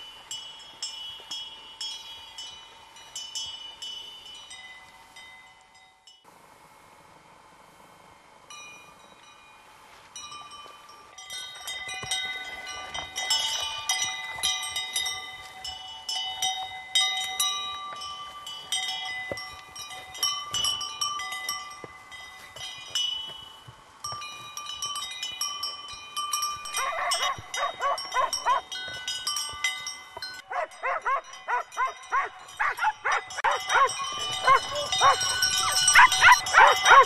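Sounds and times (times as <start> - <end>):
horse bells clinking: 0.0 - 6.3, 8.4 - 37.0.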